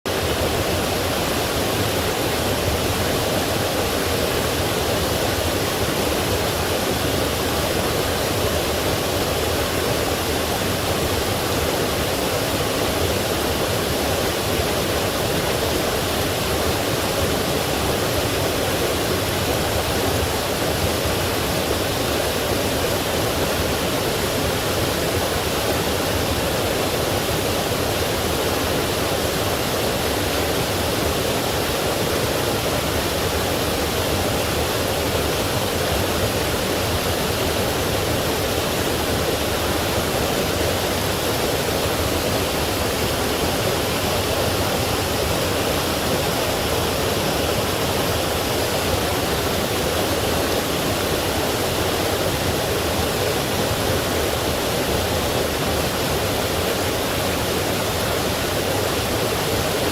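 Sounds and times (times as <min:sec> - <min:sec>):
stream waterfall rushing: 0:00.1 - 0:59.9.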